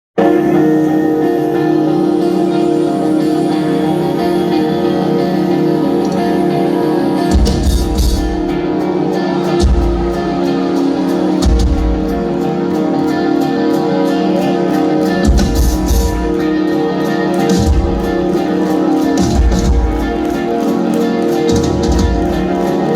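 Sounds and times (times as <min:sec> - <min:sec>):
ringing guitar chords: 0:00.2 - 0:22.9
rock band playing: 0:00.2 - 0:22.9.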